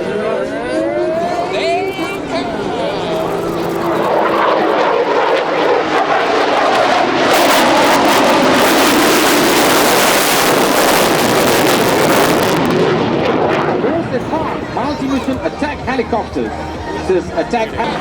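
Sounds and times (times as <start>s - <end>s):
fighter jet passing: 0.0s - 18.0s.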